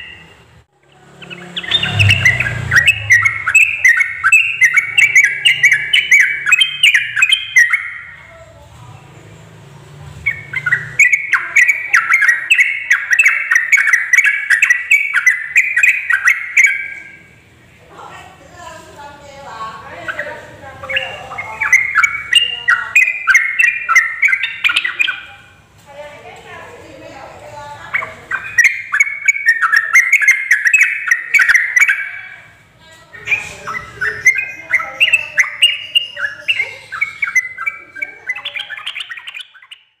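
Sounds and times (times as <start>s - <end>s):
bird chirping rapidly: 0.0s - 8.4s, 9.0s - 17.8s, 19.2s - 25.6s, 26.5s - 40.0s.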